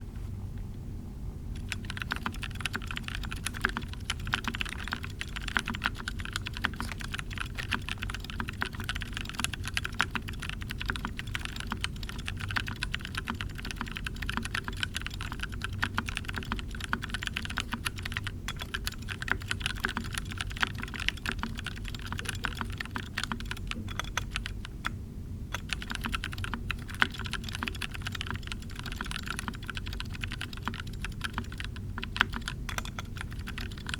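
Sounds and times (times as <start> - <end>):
low background noise: 0.0 - 33.9
mechanical keyboard typing: 1.6 - 33.9.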